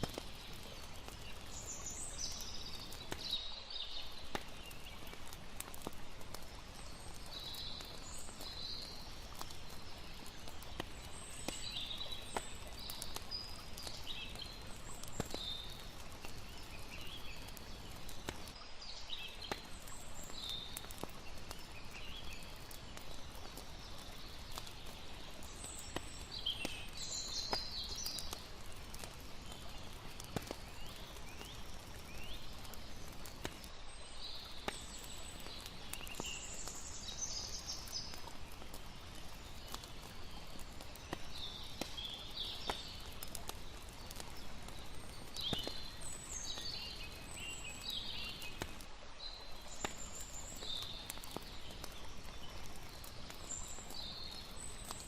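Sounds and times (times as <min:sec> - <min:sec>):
campfire crackling: 0:00.0 - 0:55.0
flowing water: 0:00.0 - 0:55.0.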